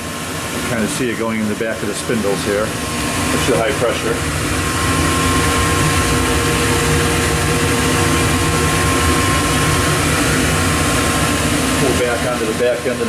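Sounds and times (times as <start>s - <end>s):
machine motors and fans humming: 0.0s - 13.0s.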